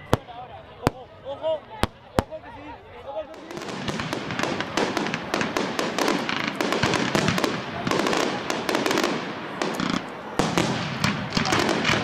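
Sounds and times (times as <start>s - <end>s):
firework bangs and crackling: 0.0s - 12.0s.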